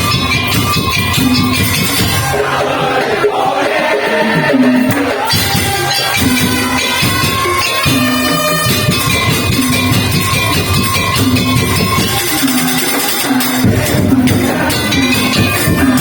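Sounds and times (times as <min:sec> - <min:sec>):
drums and struck percussion: 0:00.0 - 0:16.0
held high tone: 0:00.0 - 0:16.0.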